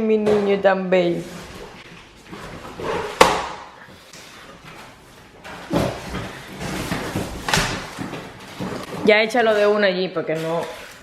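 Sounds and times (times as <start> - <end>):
boxes and packaging handled: 1.2 - 11.0.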